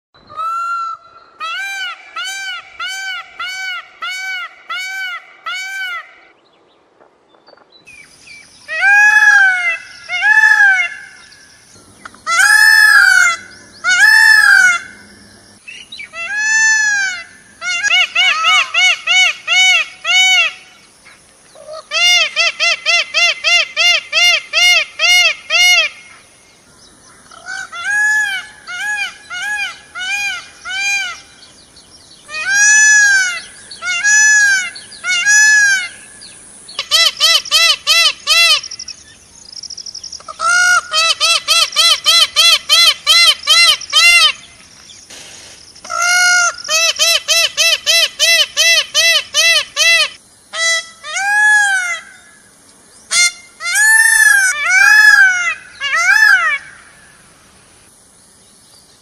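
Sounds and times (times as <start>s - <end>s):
peacock calling: 0.2s - 6.4s, 7.9s - 57.2s.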